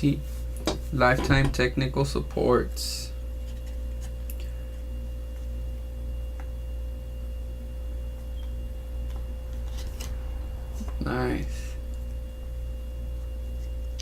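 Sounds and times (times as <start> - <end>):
low background hum: 0.0 - 14.0
thin steady whine: 0.0 - 14.0.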